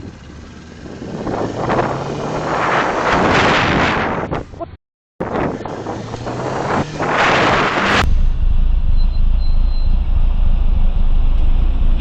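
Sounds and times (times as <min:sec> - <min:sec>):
motorcycle engine rumble: 0:00.0 - 0:03.1, 0:04.2 - 0:12.0
wind rushing over microphone: 0:00.8 - 0:12.0.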